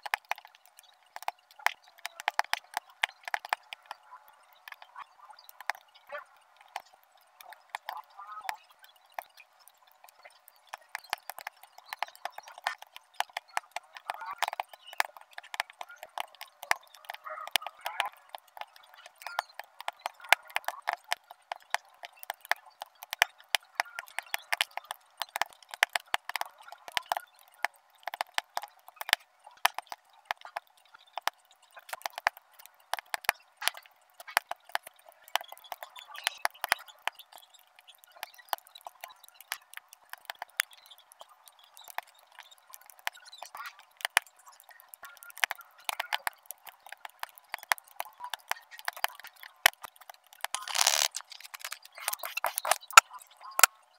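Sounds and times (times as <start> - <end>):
small resin drills clicking: 6.6 - 53.7.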